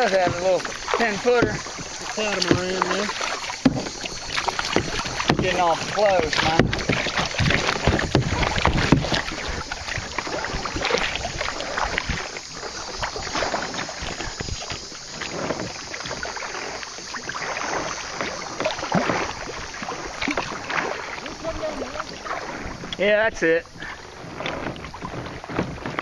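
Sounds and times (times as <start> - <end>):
paddle splashing in water: 0.0 - 26.0
water washing along hull: 0.0 - 26.0.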